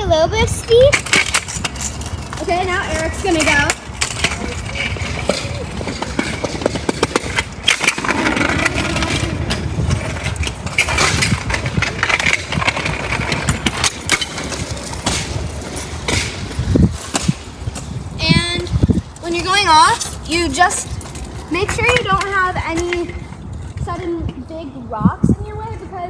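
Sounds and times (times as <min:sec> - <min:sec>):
scooter wheels rumbling: 0:00.0 - 0:26.0
scooter wheels clacking: 0:00.5 - 0:24.4.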